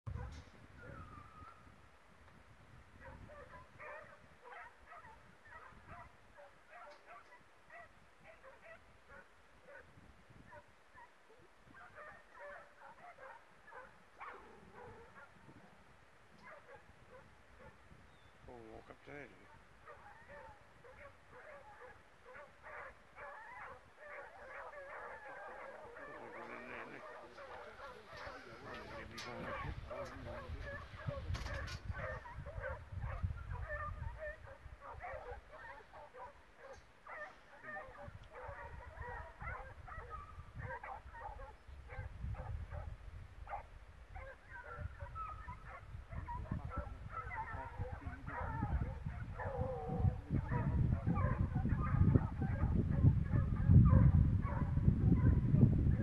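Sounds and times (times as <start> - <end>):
distant hounds baying: 0.1 - 1.7, 3.0 - 18.3, 19.0 - 56.0.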